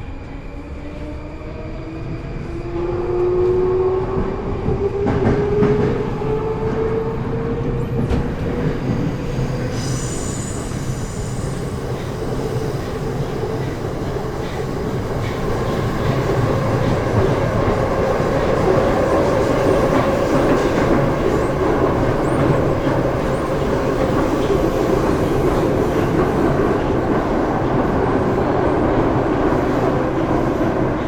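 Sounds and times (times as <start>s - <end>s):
train wheels on rails: 3.0s - 31.0s.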